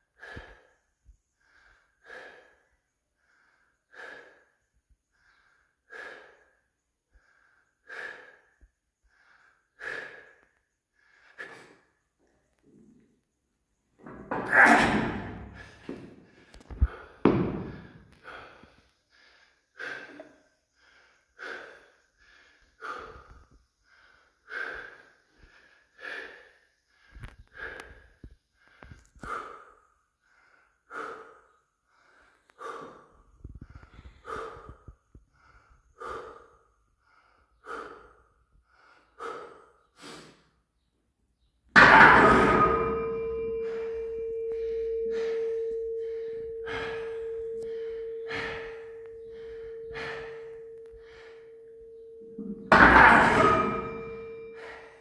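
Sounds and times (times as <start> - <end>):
man breathing heavily: 0.0 - 12.8, 14.0 - 40.9, 42.5 - 55.0.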